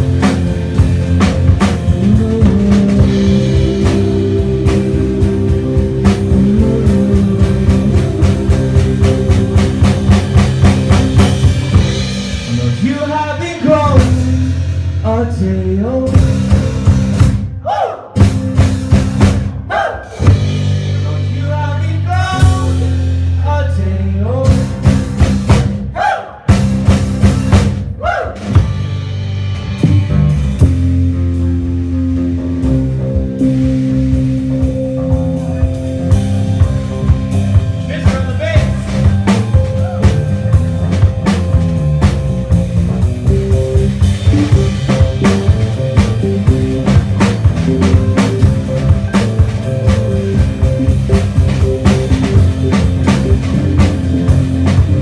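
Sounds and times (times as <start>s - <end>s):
drum kit beating fast: 0.0s - 55.0s
live rock band playing: 0.0s - 55.0s.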